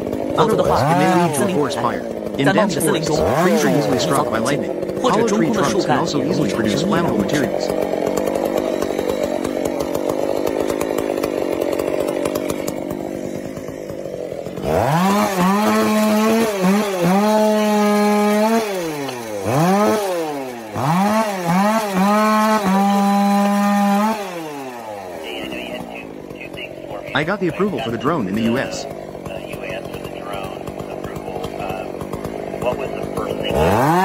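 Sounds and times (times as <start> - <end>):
chainsaw engine revving: 0.0 - 34.0.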